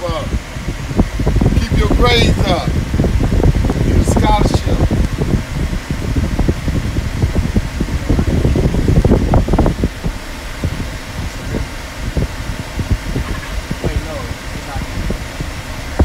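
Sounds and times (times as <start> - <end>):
road and wind noise in car: 0.0 - 16.0.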